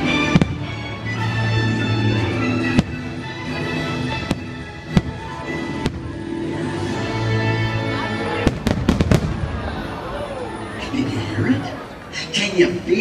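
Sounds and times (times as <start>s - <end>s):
show music: 0.0s - 13.0s.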